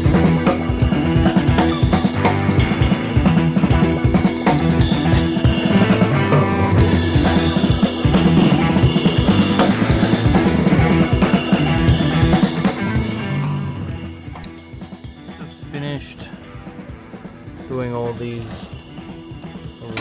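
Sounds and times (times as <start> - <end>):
rock music with drums and guitar: 0.0 - 20.0.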